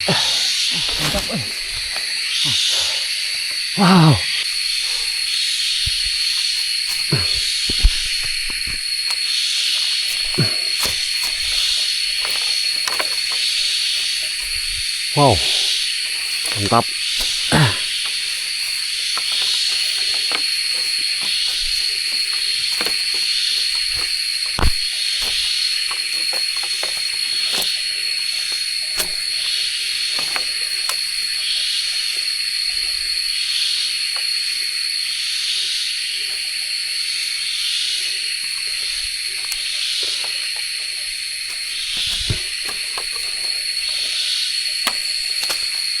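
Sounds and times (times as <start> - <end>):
insects droning: 0.0 - 46.0
pulsing insect call: 0.0 - 46.0.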